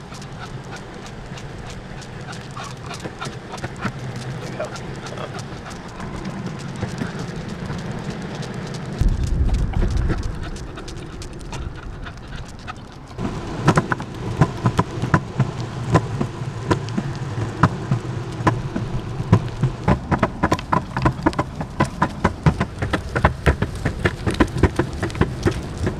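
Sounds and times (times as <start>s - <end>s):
longboard wheels rolling on pavement: 0.0s - 25.9s
sharp irregular clicks and taps: 0.0s - 25.9s.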